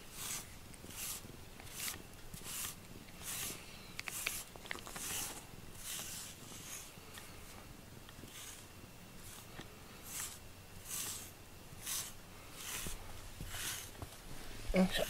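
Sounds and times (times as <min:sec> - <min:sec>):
brush swishing through fur: 0:00.0 - 0:15.0.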